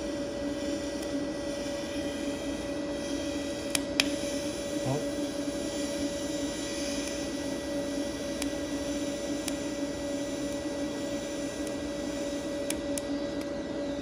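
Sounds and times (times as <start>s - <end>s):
welding arc hissing: 0.0s - 13.0s
welder hum: 0.0s - 14.0s.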